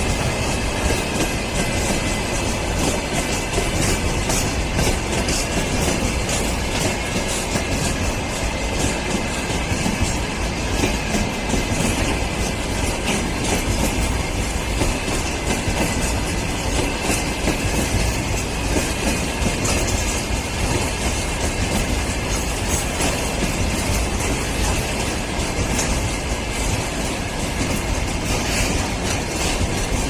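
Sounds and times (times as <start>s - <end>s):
freight train rumbling: 0.0s - 30.0s
wheels clacking over rail joints: 0.0s - 30.0s.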